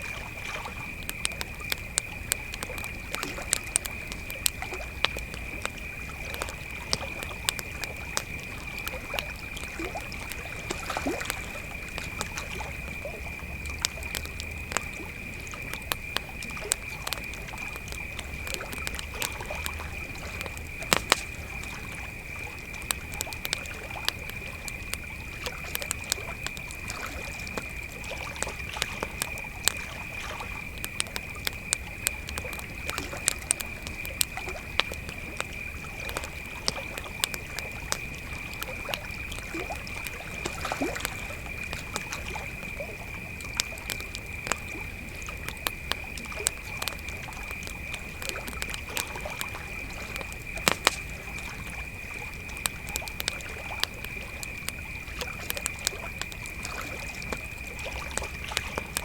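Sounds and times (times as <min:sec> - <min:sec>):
campfire crackling and popping: 0:00.0 - 0:59.0
crickets trilling: 0:00.0 - 0:59.0.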